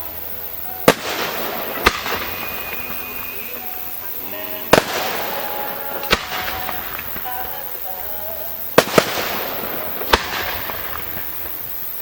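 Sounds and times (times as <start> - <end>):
crackle and hiss of fireworks: 0.0 - 12.0
fireworks bangs: 0.0 - 12.0.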